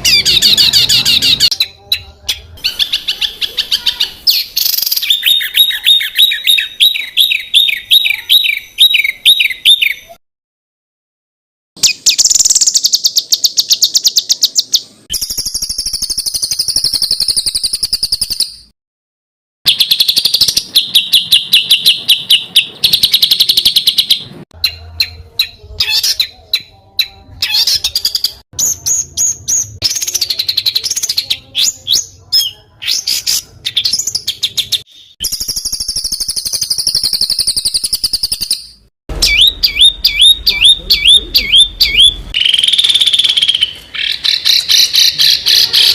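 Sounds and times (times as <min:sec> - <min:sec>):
songbirds singing fast trills: 0:00.0 - 0:10.2, 0:11.8 - 0:18.7, 0:19.7 - 0:45.9.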